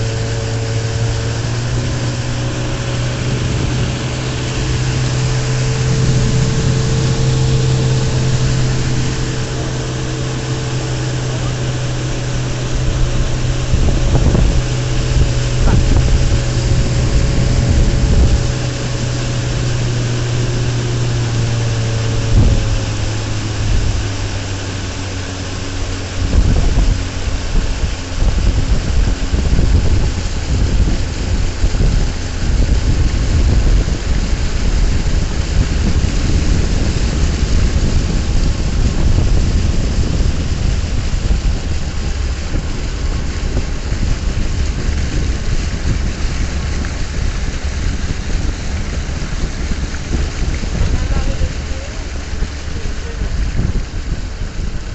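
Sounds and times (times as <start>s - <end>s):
outboard motor running: 0.0s - 54.9s
water rushing past hull: 0.0s - 54.9s.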